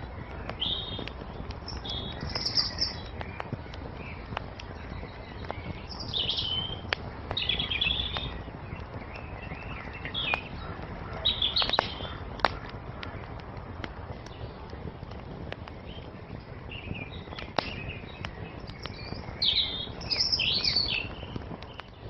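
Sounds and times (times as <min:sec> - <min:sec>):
songbirds chirping: 0:00.0 - 0:22.0
wood fire crackling and popping: 0:00.0 - 0:22.0.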